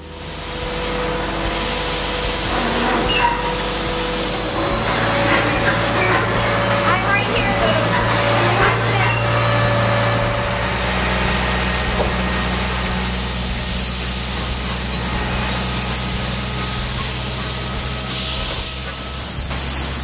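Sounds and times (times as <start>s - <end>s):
machine humming with hiss: 0.0s - 20.0s.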